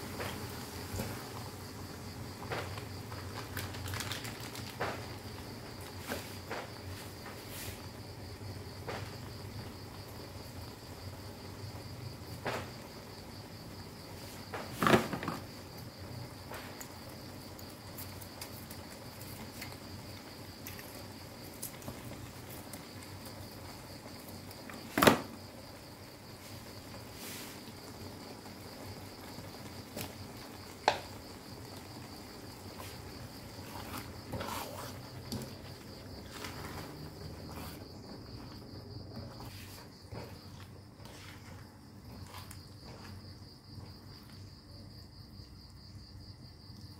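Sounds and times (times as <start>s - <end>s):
cricket trill: 0.0s - 46.9s.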